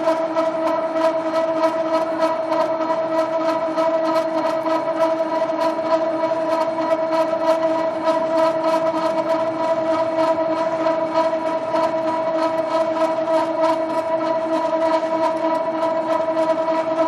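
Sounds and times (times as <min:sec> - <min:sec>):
conveyor motor humming: 0:00.0 - 0:17.0.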